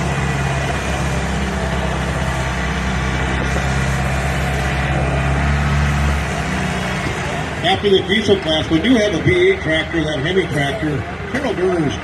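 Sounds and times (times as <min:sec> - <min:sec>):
tractor diesel engine running hard: 0:00.0 - 0:12.0.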